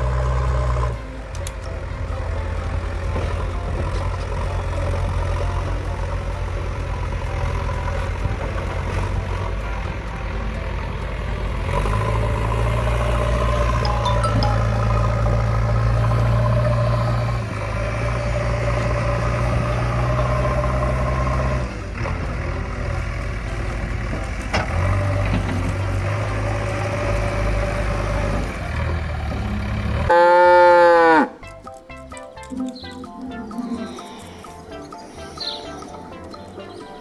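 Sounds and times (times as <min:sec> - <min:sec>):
vehicle engine idling: 0:00.0 - 0:30.2.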